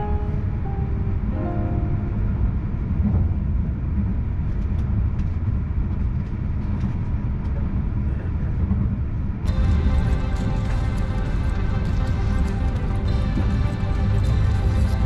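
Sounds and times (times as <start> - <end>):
whine: 0.0 - 5.7, 8.2 - 15.0
train cabin rumble: 0.0 - 15.0.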